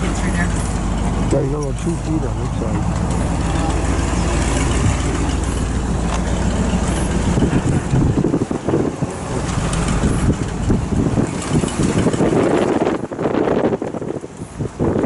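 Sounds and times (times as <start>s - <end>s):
truck engine running: 0.0s - 15.0s
wind buffeting microphone: 0.0s - 15.0s.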